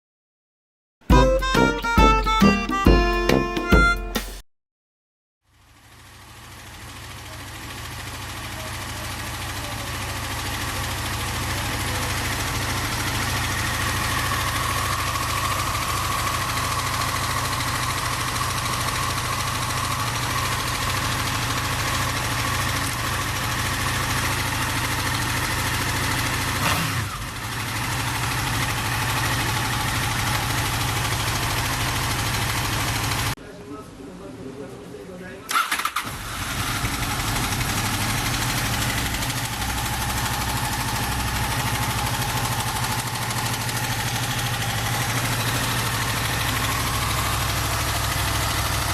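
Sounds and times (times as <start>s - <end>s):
motorcycle engine idling: 5.5s - 33.4s, 35.5s - 48.9s
abnormal mechanical engine noise: 5.5s - 48.9s.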